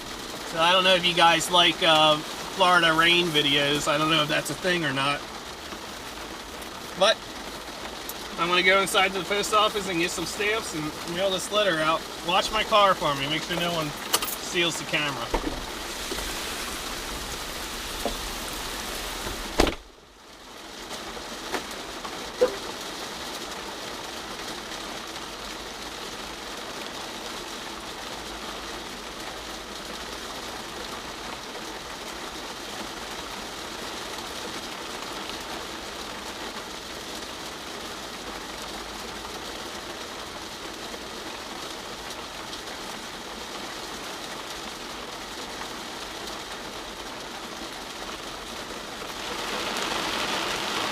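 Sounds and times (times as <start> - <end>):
rain falling on a car: 0.0 - 50.9.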